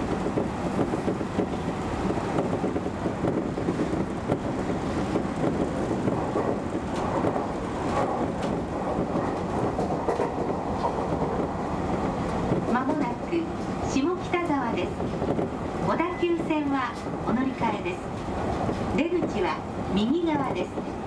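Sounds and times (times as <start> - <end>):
rail joint clicks: 0.0 - 21.0
train wheels rumbling on rail: 0.0 - 21.0.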